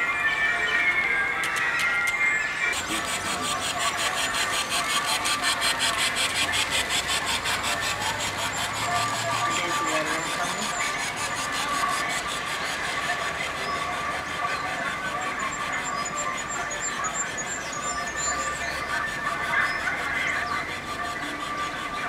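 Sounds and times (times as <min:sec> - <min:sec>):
model train clicking on track: 0:01.3 - 0:22.0.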